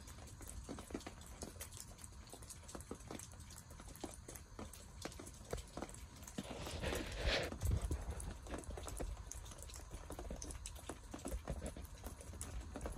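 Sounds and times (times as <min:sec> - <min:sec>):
coal fire crackling and popping: 0:00.0 - 0:12.9.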